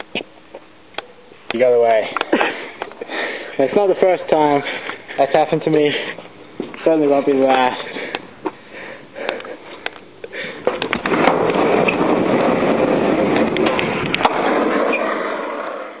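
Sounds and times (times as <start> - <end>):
steady rolling rumble: 0.0 - 16.0.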